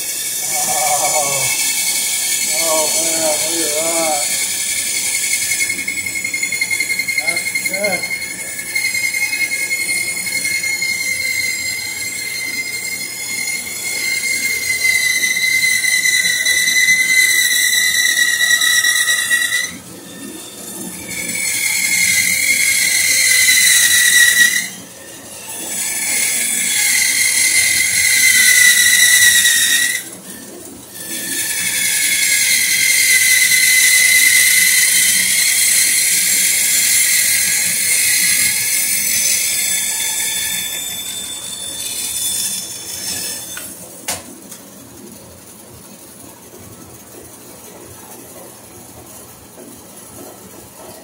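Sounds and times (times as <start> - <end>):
bandsaw cutting wood: 0.0 - 24.9, 25.5 - 30.2, 31.0 - 43.7.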